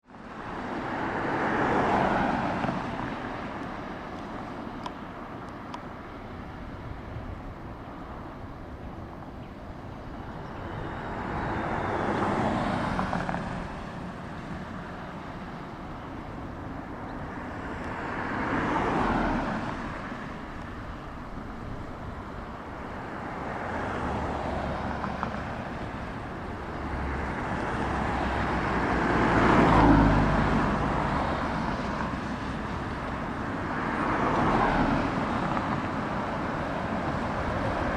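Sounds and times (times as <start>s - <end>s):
cars passing by: 0.1s - 37.9s.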